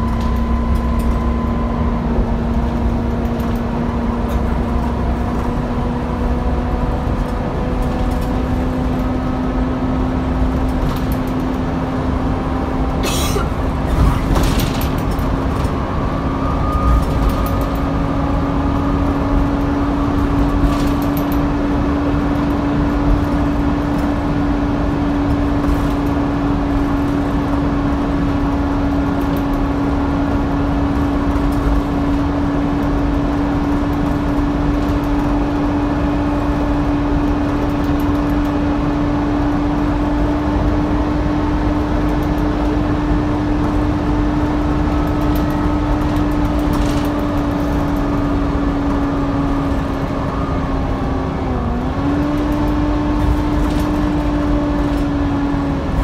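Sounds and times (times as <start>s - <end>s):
bus engine whining: 0.0s - 56.0s.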